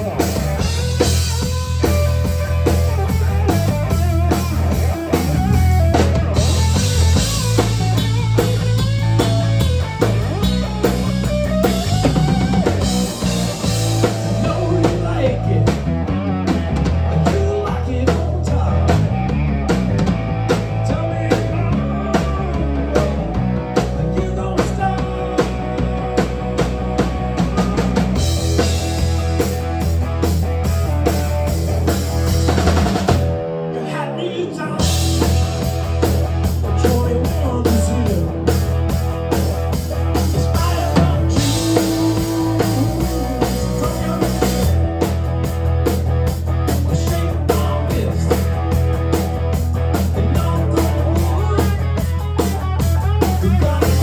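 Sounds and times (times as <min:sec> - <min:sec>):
live rock band: 0:00.0 - 0:54.0.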